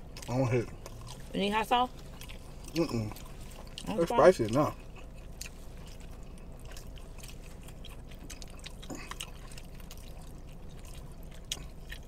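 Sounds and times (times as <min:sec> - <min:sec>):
low steady hum: 0:00.0 - 0:12.0
people chewing: 0:00.0 - 0:12.0.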